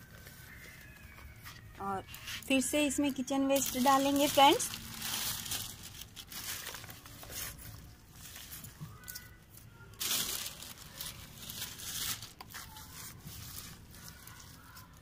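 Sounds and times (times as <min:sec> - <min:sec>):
dry leaves rustling in plastic pot: 0:00.0 - 0:15.0.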